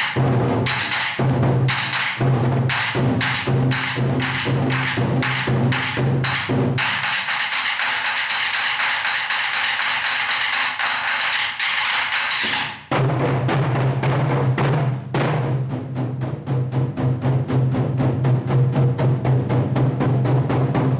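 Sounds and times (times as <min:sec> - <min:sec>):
percussion ensemble drumming: 0:00.0 - 0:20.9.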